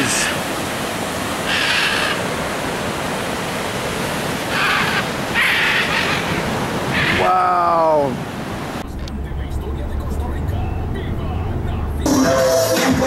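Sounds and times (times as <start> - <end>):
ocean surf rushing: 0.0 - 13.0.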